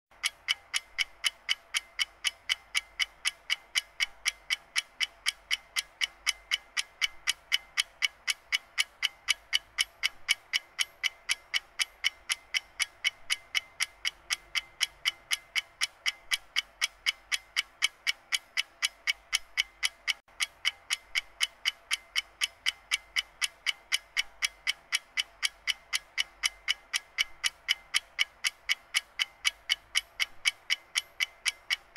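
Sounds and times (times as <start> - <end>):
alarm clock ticking: 0.2 - 31.9.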